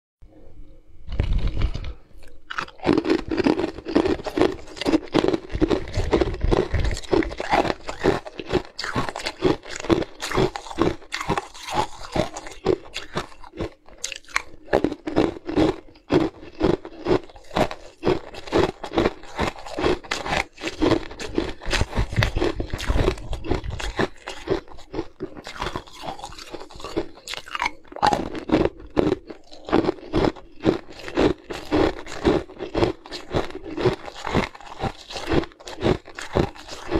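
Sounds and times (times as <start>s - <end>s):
ice cubes being chewed: 1.1s - 36.9s.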